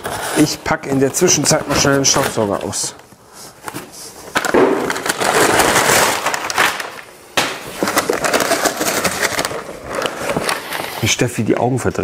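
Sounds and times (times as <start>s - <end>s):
cardboard and packing rustling: 0.0s - 11.6s.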